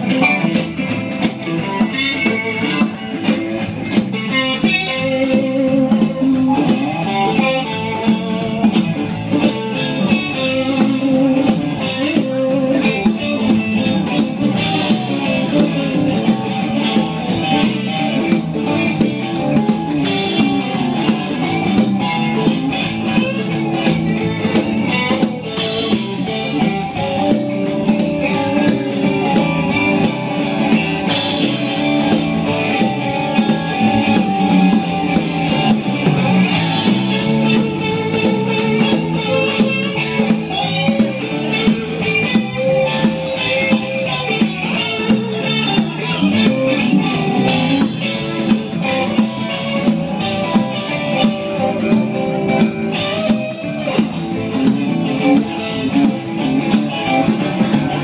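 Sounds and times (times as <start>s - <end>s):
drum kit: 0.0s - 58.0s
electric guitar: 0.0s - 58.0s.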